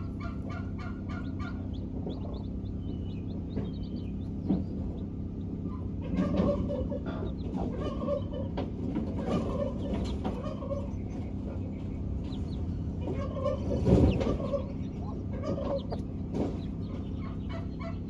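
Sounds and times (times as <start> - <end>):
chicks peeping: 0.0 - 18.0
hens clucking softly: 0.0 - 18.0.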